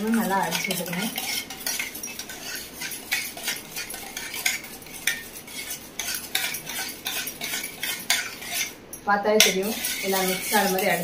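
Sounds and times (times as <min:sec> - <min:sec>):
spoon beating eggs in metal bowl: 0:00.0 - 0:11.0.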